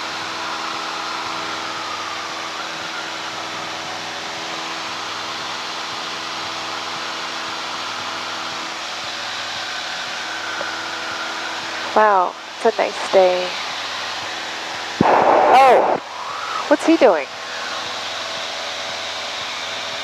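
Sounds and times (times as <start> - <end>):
airplane engine and propeller drone: 0.0 - 20.0
faint high whine: 0.0 - 20.0.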